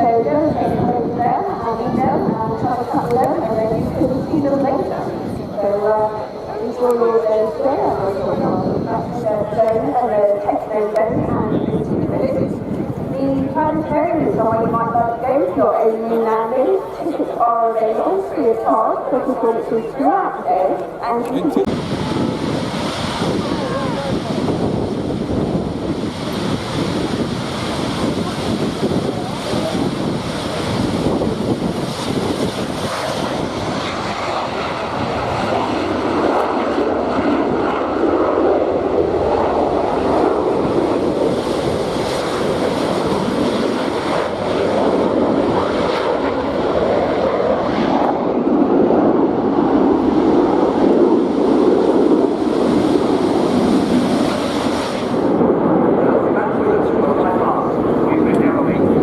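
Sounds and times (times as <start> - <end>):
jet aircraft roar: 0.0 - 59.0
wind buffeting microphone: 0.0 - 59.0.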